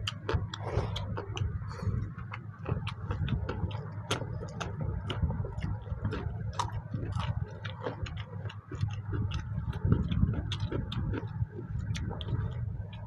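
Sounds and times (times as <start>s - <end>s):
chewing and mouth smacks: 0.0s - 13.0s
steady low rumble: 0.0s - 13.0s.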